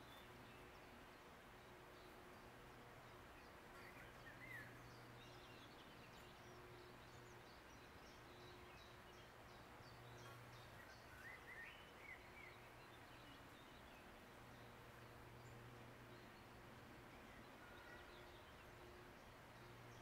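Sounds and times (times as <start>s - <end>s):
background hiss: 0.0s - 20.0s
birds chirping: 0.0s - 20.0s.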